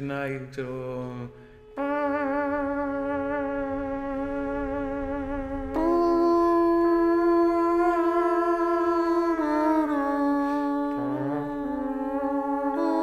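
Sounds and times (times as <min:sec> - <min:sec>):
humming drone of held notes: 0:00.9 - 0:13.0.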